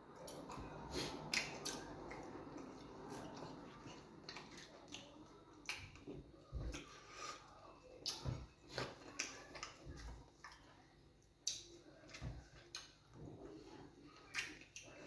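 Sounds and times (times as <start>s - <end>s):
chewing and mouth smacks: 0.2s - 15.0s.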